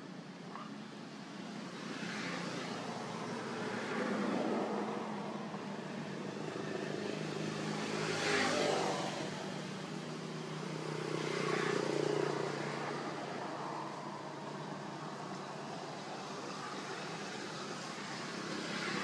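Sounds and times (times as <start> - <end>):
road traffic hum: 0.0 - 19.0
vehicles passing by: 0.0 - 19.0.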